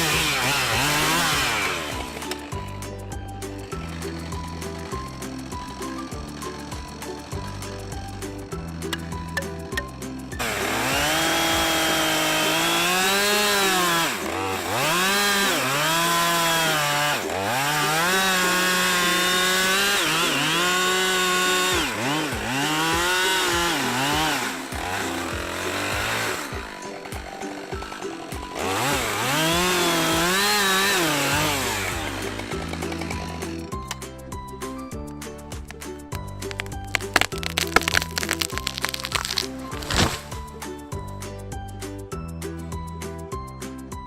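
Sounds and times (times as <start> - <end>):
chainsaw running at high revs: 0.0 - 34.0, 35.6 - 40.6.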